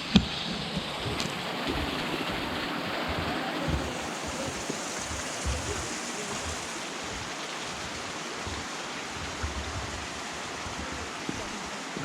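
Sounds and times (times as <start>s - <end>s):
creek water rushing: 0.0s - 12.0s
low bumps: 0.1s - 12.0s.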